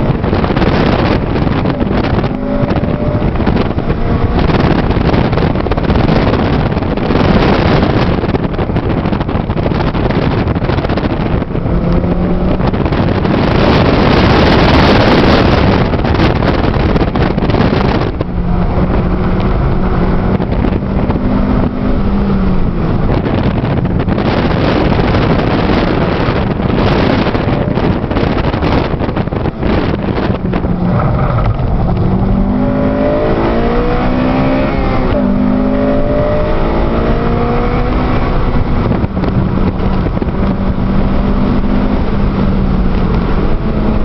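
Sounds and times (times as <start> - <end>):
car engine running hard: 0.0 - 44.0
wind and road noise: 0.0 - 44.0.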